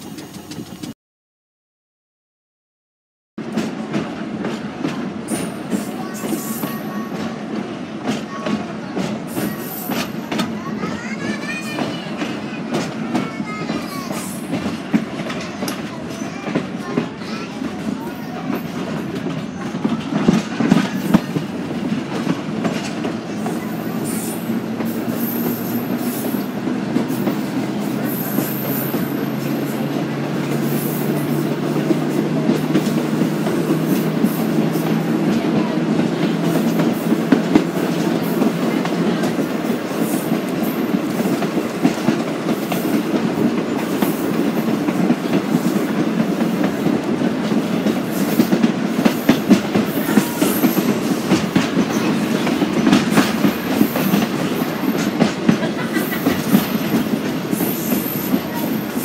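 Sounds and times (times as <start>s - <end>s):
train rumbling on track: 0.0s - 1.0s, 3.4s - 59.0s.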